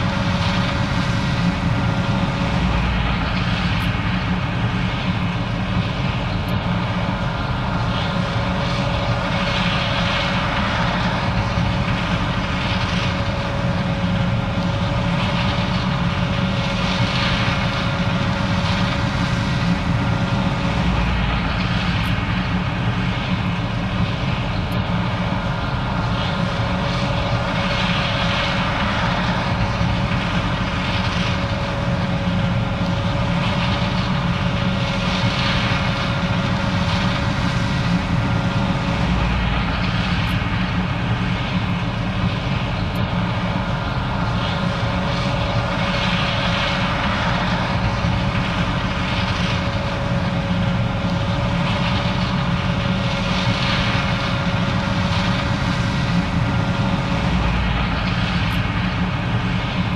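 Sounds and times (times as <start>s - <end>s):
combine engine drone: 0.0s - 59.9s
steady higher hum: 0.0s - 59.9s.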